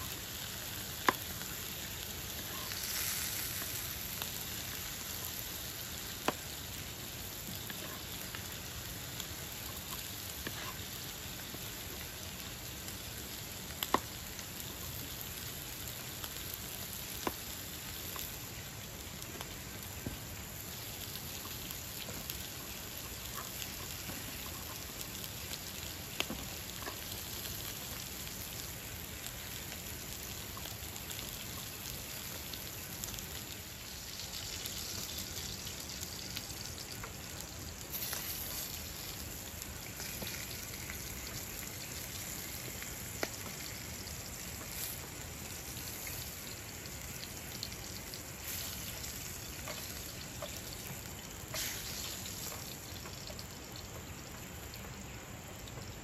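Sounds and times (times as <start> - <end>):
meat sizzling in a frying pan: 0.0 - 56.0.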